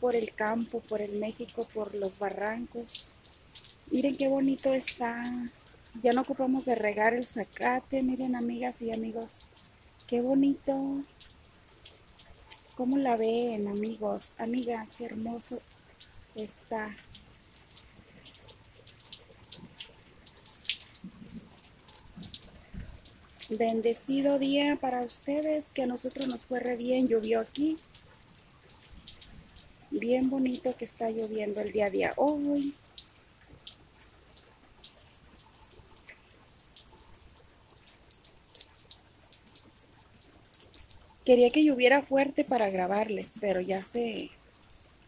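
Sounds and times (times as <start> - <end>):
light rain: 0.0 - 45.0
water dripping into puddles: 0.0 - 45.0.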